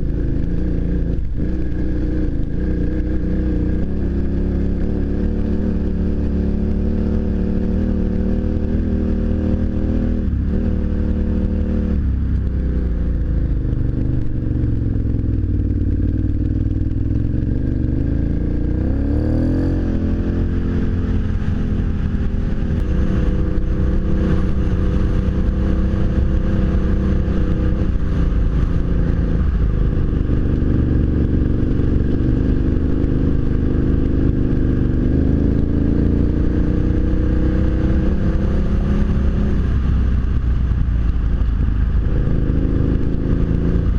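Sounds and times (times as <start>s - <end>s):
motorcycle engine running: 0.0s - 43.9s
wind noise: 0.0s - 43.9s.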